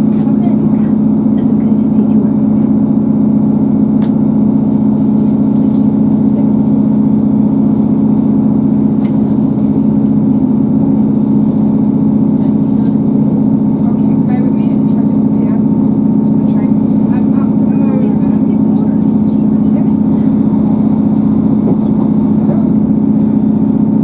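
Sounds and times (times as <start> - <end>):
train diesel engine drone: 0.0 - 24.0.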